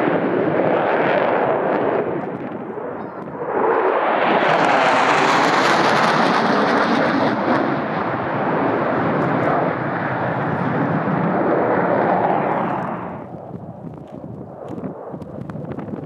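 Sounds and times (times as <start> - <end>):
jet roar overhead: 0.0 - 16.0.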